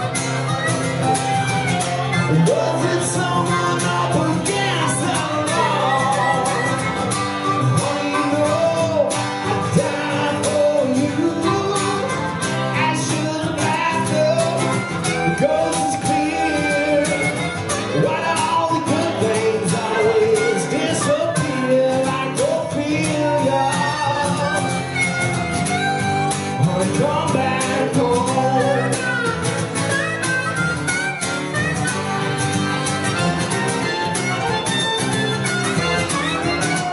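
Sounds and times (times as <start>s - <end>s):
acoustic guitar strumming: 0.0s - 36.9s
harmonica wailing: 0.0s - 36.9s.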